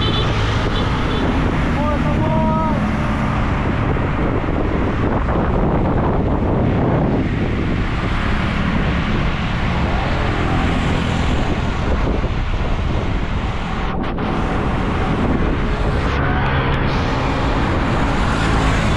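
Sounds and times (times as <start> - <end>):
street traffic engines humming: 0.0 - 18.9
wind rushing over microphone: 0.0 - 18.9.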